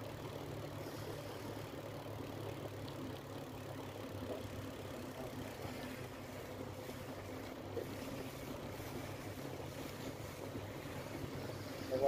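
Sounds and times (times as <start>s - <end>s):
bicycle tyres rolling: 0.0s - 12.0s.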